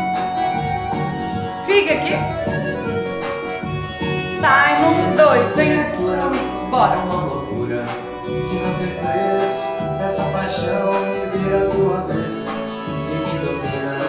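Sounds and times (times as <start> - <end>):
upbeat pop song with singer: 0.0 - 14.0.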